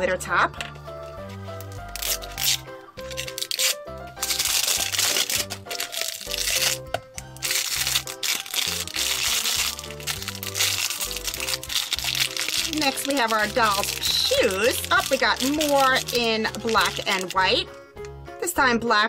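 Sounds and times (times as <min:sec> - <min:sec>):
background music: 0:00.0 - 0:19.0
plastic wrapping crinkling: 0:01.6 - 0:18.0.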